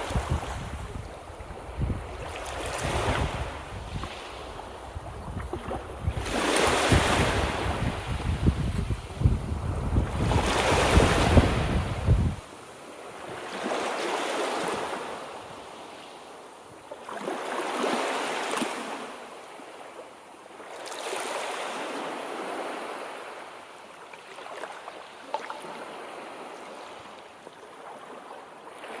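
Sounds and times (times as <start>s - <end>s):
small waves washing onto shore: 0.0s - 29.0s.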